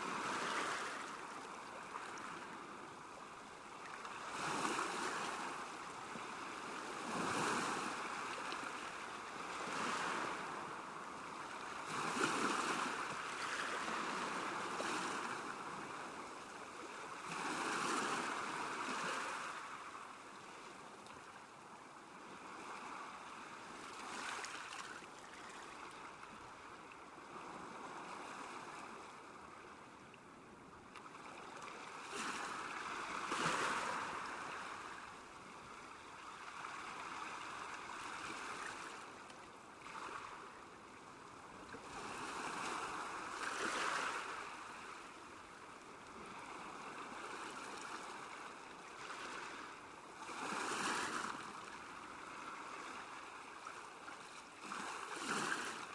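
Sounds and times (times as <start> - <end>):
small waves lapping: 0.0 - 21.4, 22.0 - 30.0, 30.8 - 55.9.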